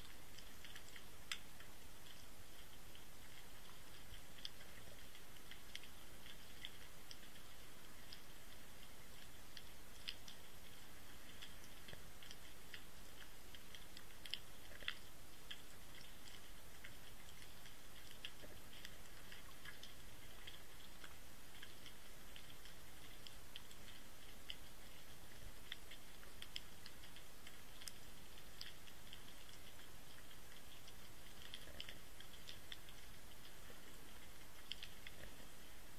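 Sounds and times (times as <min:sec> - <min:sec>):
faint steady hiss: 0:00.0 - 0:35.9
small underwater clicks and ticks: 0:00.0 - 0:35.9.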